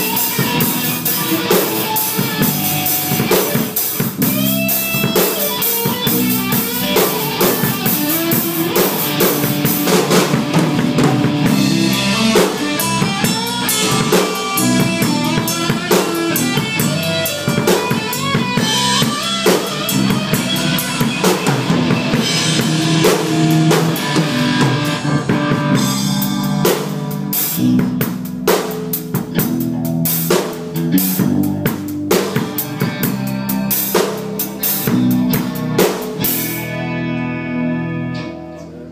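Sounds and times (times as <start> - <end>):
drum kit hits: 0.0 - 36.6
rock band playing live: 0.0 - 38.9.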